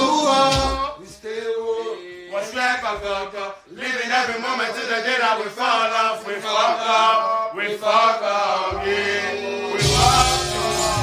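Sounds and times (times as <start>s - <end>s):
men singing a chant: 0.0s - 11.0s.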